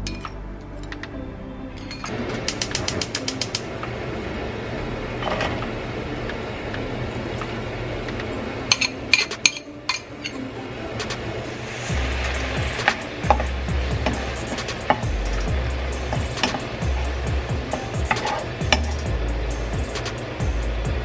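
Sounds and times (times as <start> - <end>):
steady cooking hiss: 2.2 - 21.0.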